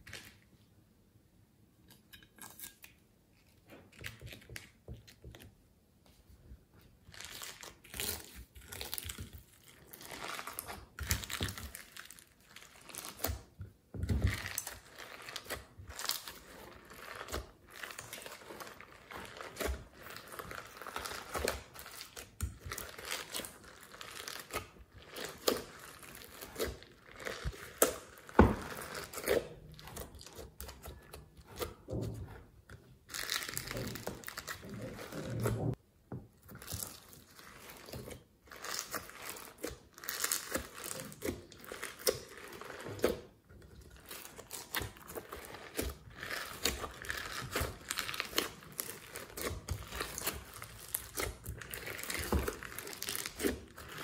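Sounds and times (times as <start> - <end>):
slime squishing and crackling: 6.9 - 35.8, 36.4 - 54.0.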